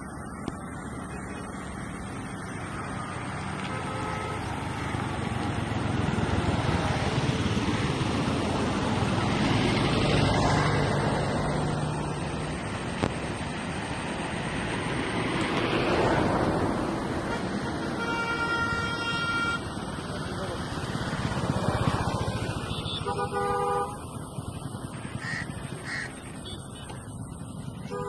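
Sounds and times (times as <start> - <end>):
passing motor traffic rumble: 0.0 - 28.0.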